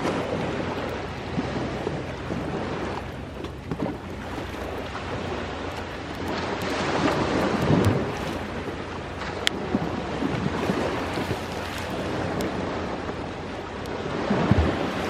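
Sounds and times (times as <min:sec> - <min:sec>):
sea waves washing ashore: 0:00.0 - 0:15.0
campfire crackling: 0:00.1 - 0:14.0.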